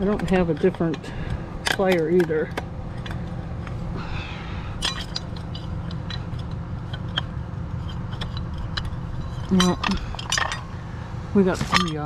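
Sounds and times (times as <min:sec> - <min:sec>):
pliers clinking on scrap metal: 0:00.0 - 0:03.3, 0:04.8 - 0:10.7, 0:11.5 - 0:12.0
steady low rumble: 0:00.0 - 0:12.0.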